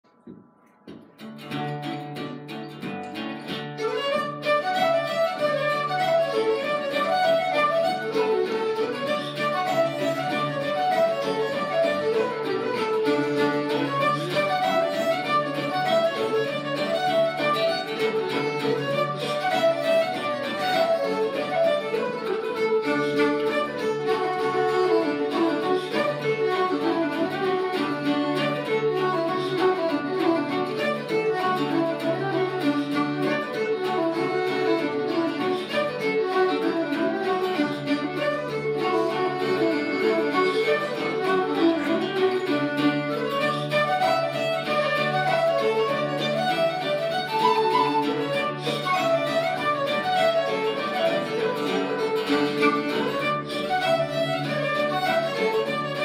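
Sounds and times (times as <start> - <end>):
acoustic guitar: 0.1 - 56.0
fiddle: 0.3 - 56.0
flute: 3.8 - 56.0.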